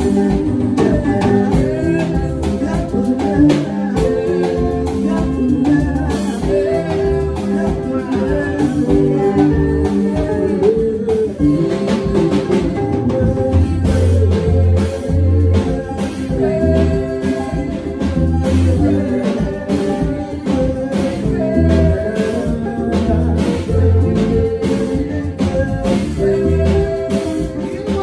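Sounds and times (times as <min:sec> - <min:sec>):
bass line: 0:00.0 - 0:28.0
electronic keyboard melody: 0:00.0 - 0:28.0
steady drum beat: 0:00.0 - 0:28.0.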